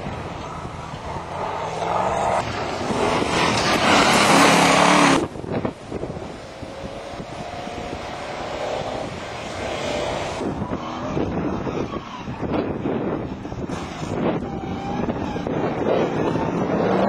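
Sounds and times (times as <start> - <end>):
distant engine revving: 0.0 - 17.0
engine running hard close by: 0.0 - 17.0.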